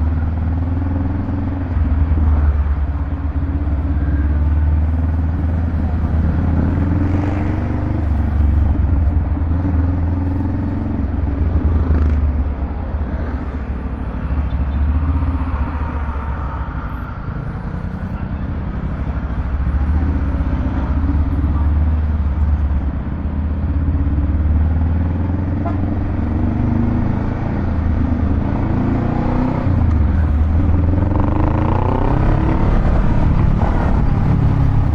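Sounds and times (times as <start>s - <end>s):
motorcycle engine deep rumble: 0.0s - 15.5s, 17.8s - 34.9s.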